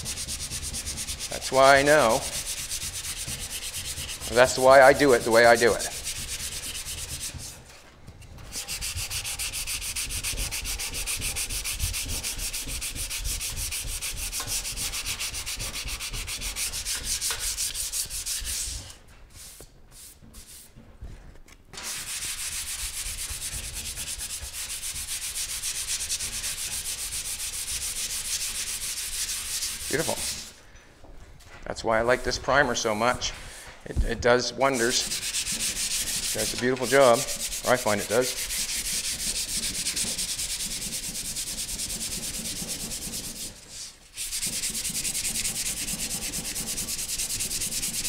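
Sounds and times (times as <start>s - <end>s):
hand sanding with sandpaper: 0.0s - 21.2s, 21.8s - 30.6s, 31.9s - 48.0s.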